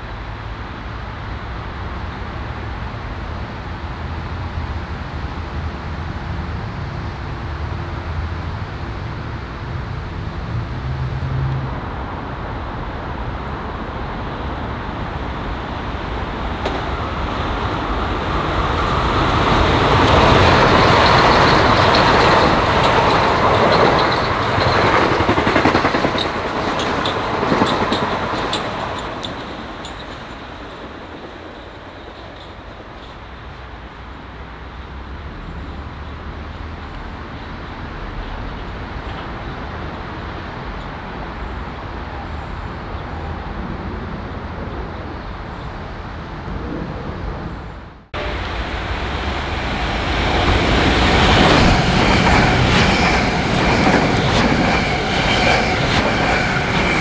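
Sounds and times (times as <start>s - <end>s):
commuter train passing: 0.0s - 57.0s.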